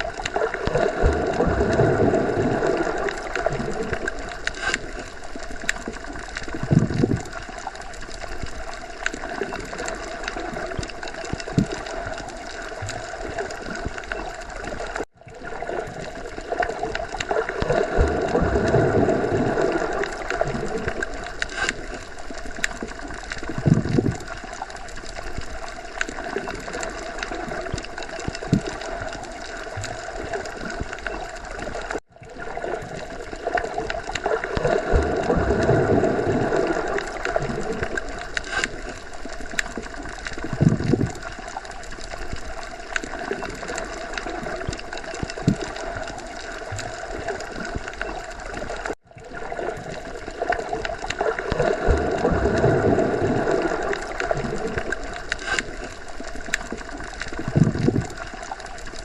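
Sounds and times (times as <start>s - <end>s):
underwater water noise: 0.0s - 59.0s.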